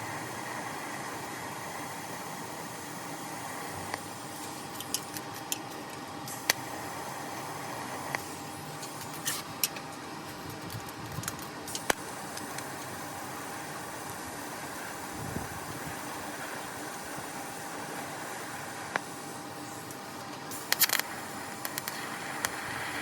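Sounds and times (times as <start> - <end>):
mechanical hum and hiss: 0.0 - 23.0.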